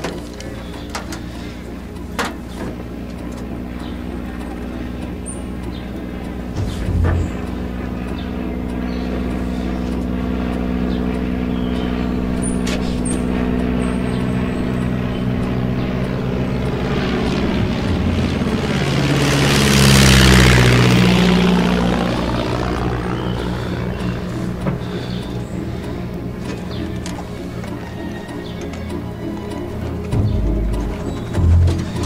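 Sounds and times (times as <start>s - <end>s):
propeller airplane passing: 0.0s - 32.0s.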